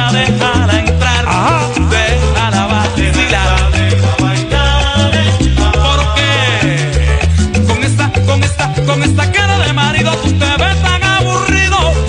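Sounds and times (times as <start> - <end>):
salsa song over sound system: 0.0 - 12.0.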